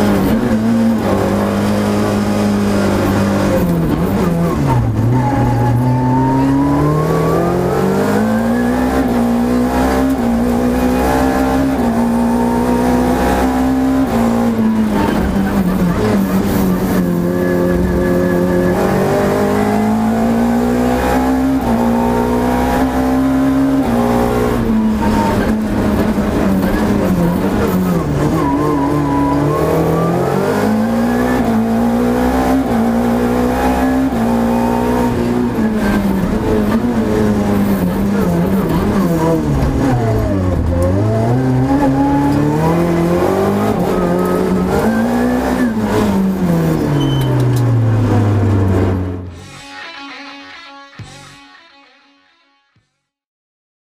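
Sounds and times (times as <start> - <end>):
rally car engine revving: 0.0 - 50.2.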